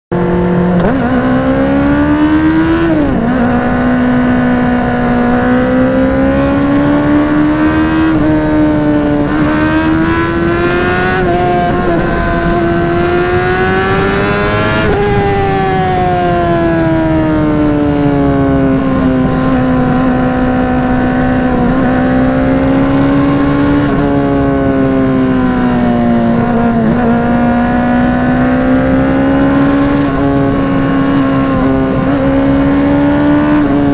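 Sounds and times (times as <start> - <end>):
motorcycle engine at high revs: 0.1 - 33.9.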